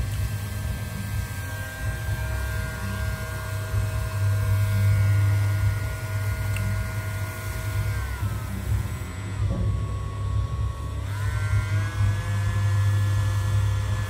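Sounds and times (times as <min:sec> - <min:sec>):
hot air gun fan whining: 0:00.0 - 0:14.0
loud low hum: 0:00.0 - 0:14.0.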